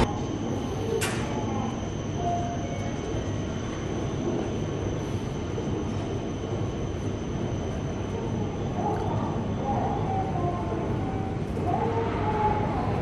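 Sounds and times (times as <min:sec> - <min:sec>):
faint high whine: 0:00.0 - 0:13.0
railway station rumble: 0:00.0 - 0:13.0.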